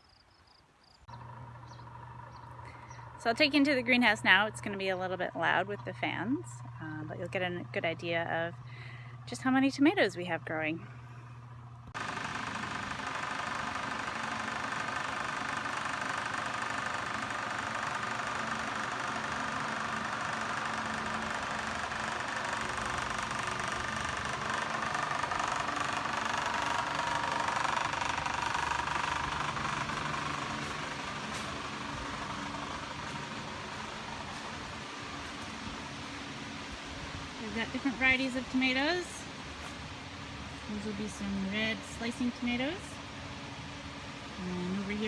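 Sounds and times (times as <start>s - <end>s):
ventilation fans humming: 1.1s - 45.0s.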